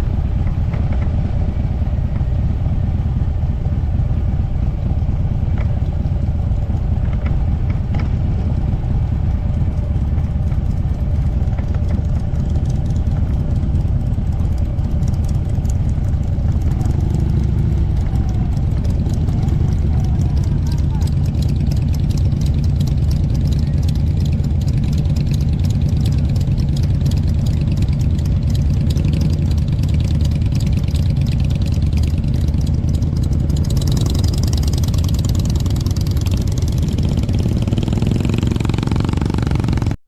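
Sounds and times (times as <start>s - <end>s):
motorcycle engine rumbling: 0.0s - 40.0s.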